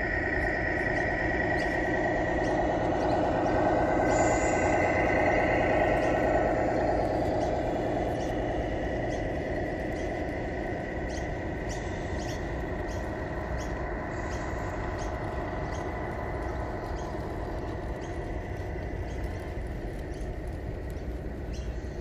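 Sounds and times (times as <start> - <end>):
thin steady whine: 0.0 - 22.0
toy trucks running hum: 0.0 - 22.0.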